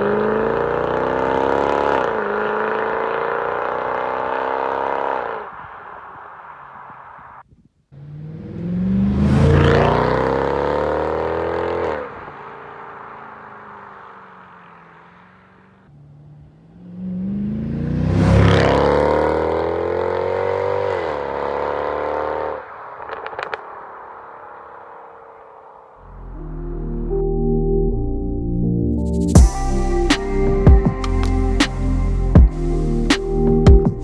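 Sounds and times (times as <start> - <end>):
car engine revving: 0.0 - 27.2
exhaust crackles: 0.0 - 28.6.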